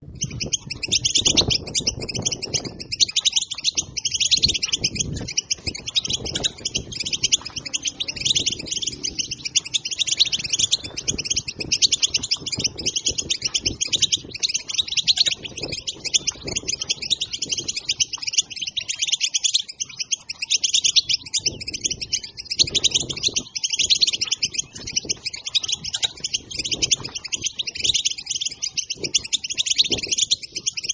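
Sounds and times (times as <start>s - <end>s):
goldfinch twittering: 0.1s - 30.9s.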